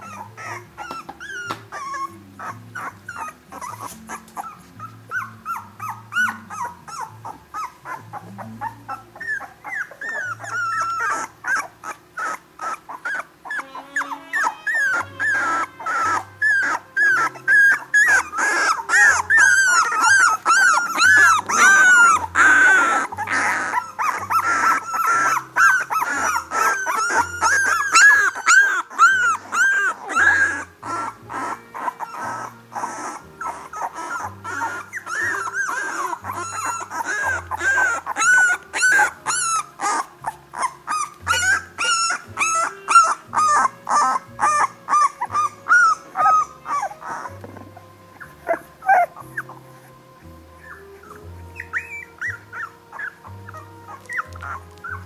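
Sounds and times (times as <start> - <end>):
puppies whimpering and squealing: 0.0 - 55.0.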